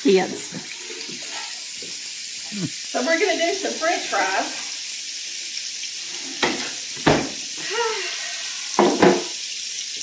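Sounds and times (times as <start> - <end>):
hot oil sizzling: 0.0 - 10.0.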